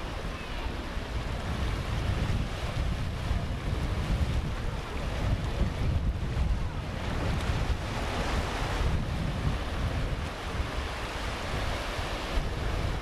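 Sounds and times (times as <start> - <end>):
small waves washing on shore: 0.0 - 13.0
wind rumbling on microphone: 0.0 - 13.0.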